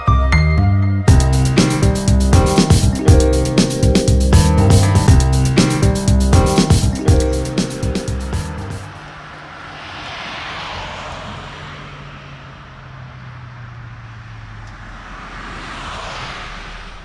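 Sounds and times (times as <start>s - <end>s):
road traffic passing: 1.1s - 17.0s.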